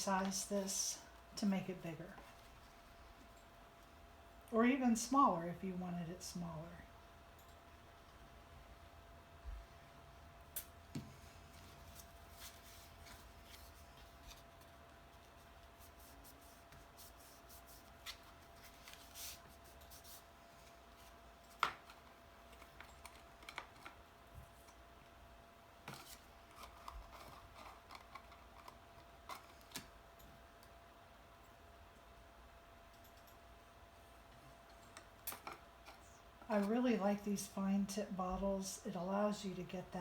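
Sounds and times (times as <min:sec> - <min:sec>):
faint hum: 0:00.0 - 0:40.0.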